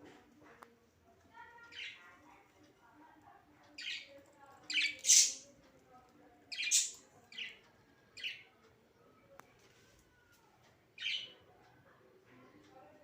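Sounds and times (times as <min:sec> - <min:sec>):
soft warbling chatter: 0:00.0 - 0:13.0.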